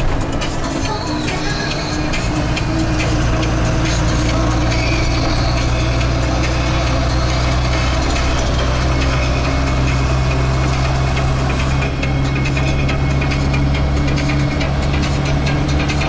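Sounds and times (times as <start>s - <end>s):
engine drone: 0.0s - 16.0s
road noise inside vehicle: 0.0s - 16.0s.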